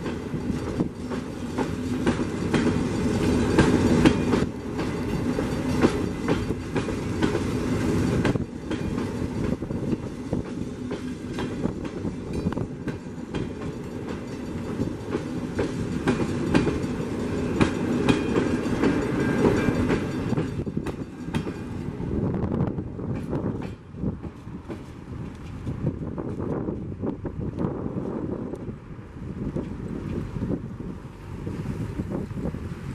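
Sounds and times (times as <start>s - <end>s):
wheels clacking over rail joints: 0.0s - 27.2s
train wheels rumbling on rail: 0.0s - 32.9s.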